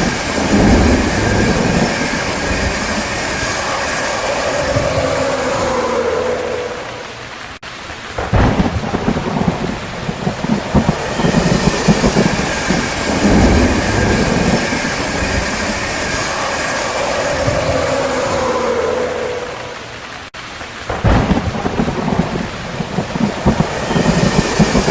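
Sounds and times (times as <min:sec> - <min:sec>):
heavy rain hiss: 0:00.0 - 0:24.9
thunder rolling: 0:00.0 - 0:24.9.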